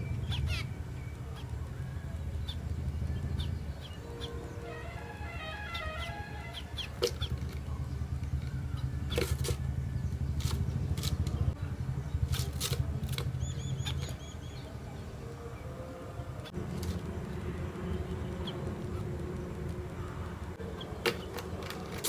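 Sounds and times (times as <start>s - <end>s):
steady low rumble: 0.0s - 20.8s
sparrows chirping: 0.0s - 22.0s.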